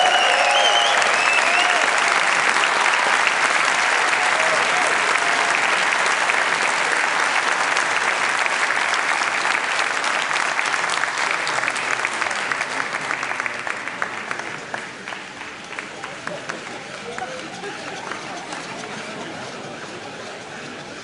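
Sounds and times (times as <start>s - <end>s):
large audience applauding: 0.0s - 21.0s.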